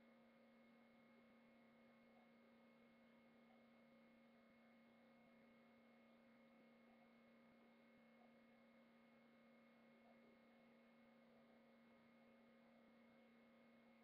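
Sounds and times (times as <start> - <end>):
faint electronic hum: 0.0 - 14.0.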